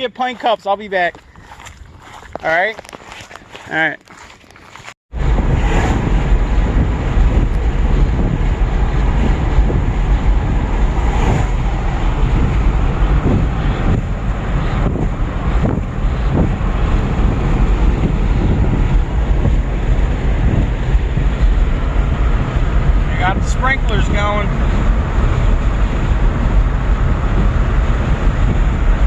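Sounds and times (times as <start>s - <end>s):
loud low rumbling: 5.1s - 29.0s.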